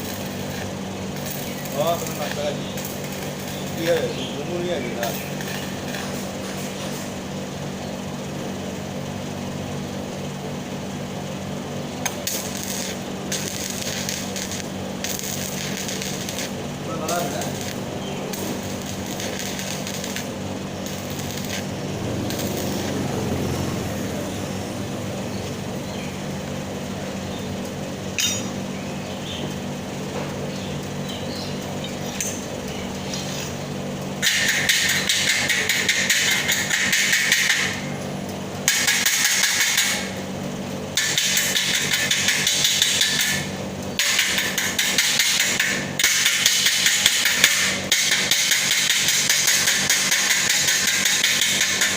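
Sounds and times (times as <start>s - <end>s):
steady low hum: 0.0s - 51.9s
welding arc crackling: 0.0s - 51.9s.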